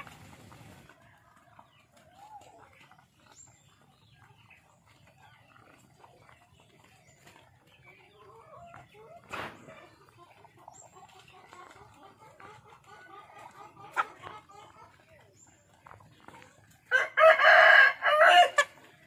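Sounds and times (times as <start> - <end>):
beaks pecking at grain: 0.0 - 19.0
chickens clucking: 0.0 - 19.0.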